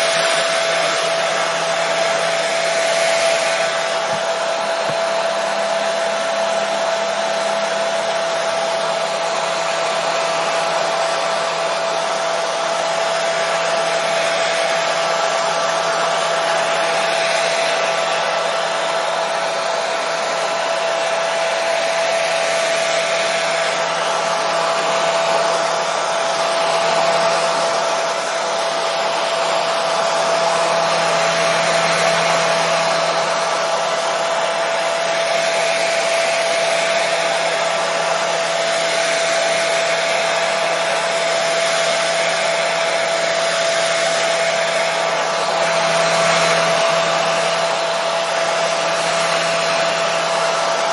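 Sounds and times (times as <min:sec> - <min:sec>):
hair dryer running: 0:00.0 - 0:50.9.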